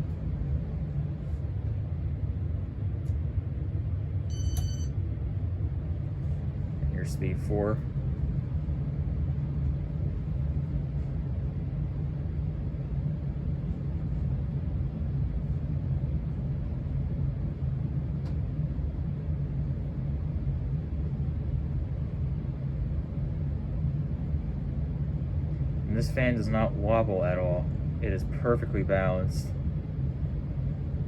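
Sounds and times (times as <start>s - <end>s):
air conditioning system rumble: 0.0s - 31.0s
ceiling fan spinning: 0.0s - 31.0s.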